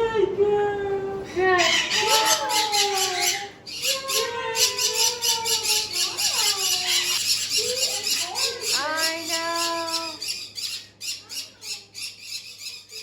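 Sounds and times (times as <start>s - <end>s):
parrots squawking: 1.3s - 13.0s.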